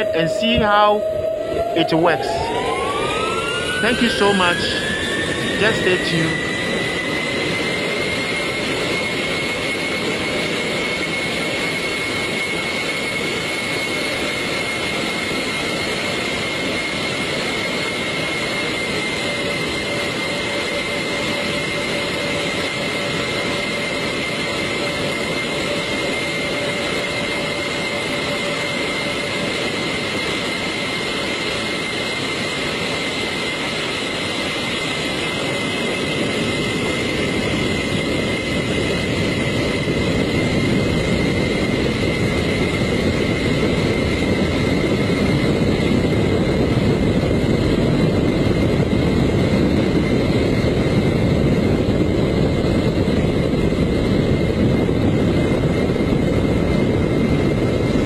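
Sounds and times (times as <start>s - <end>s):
jet engine roar with high whine: 0.0s - 58.0s.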